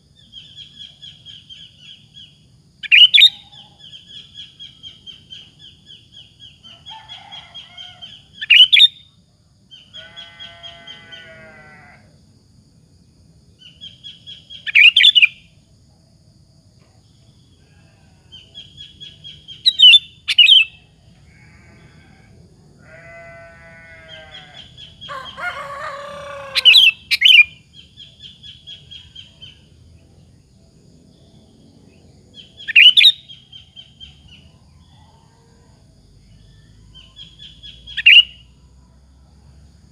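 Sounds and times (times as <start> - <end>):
bird chirping song: 0.1 - 11.7, 13.6 - 15.6, 16.8 - 22.3, 22.9 - 38.6.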